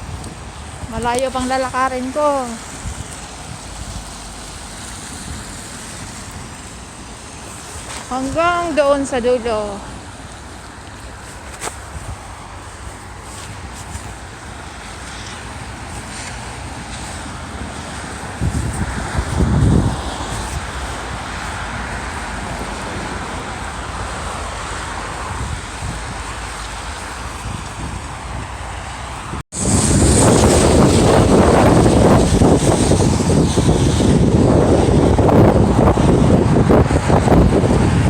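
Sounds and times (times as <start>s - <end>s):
road noise: 0.0s - 38.0s
wind rushing over microphone: 0.0s - 38.0s.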